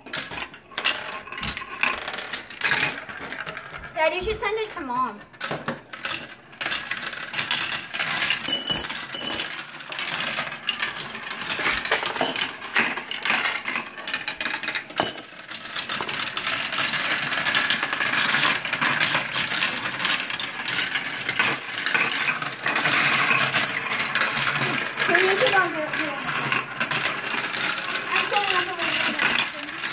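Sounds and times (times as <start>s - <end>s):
marbles clattering down plastic track: 0.0s - 29.9s.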